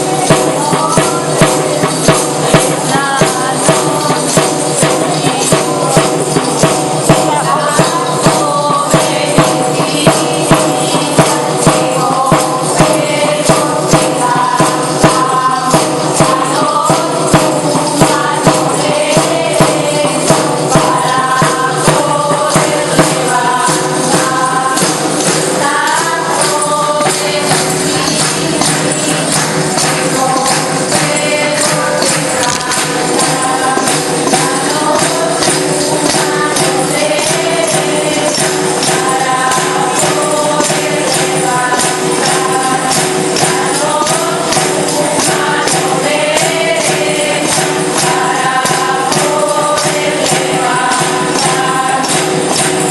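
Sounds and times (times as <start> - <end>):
group of voices singing: 0.0 - 52.9
tambourine beat: 0.0 - 52.9.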